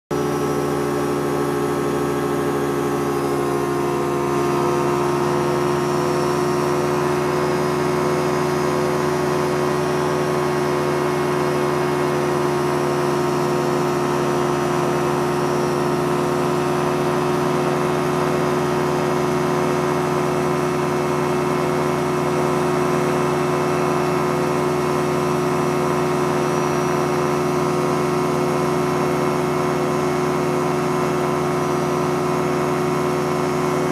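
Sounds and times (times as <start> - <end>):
light aircraft engine and propeller: 0.1 - 33.9.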